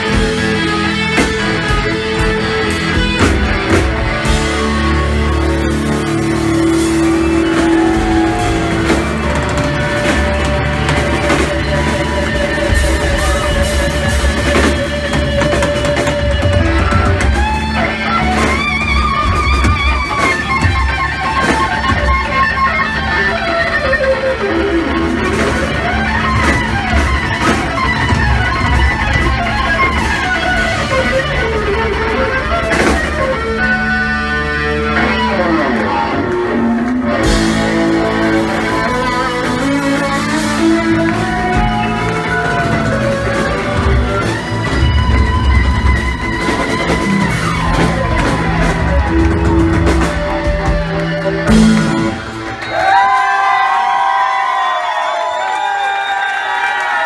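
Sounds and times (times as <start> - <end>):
electric guitar bent notes: 0.0 - 53.3
rock band playing: 0.0 - 57.0.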